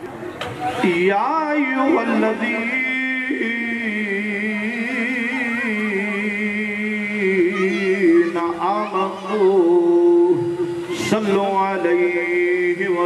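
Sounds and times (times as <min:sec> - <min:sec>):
man chanting melodically: 0:00.7 - 0:13.0.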